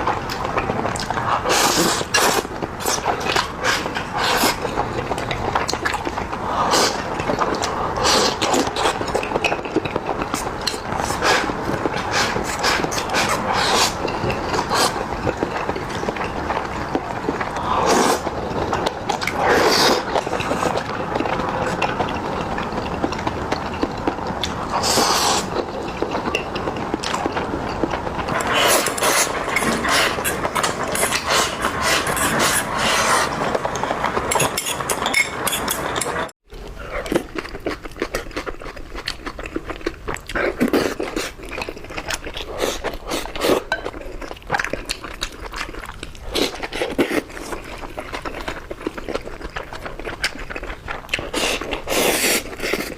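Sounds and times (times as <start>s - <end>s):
wet chewing and slurping: 0.0s - 52.9s.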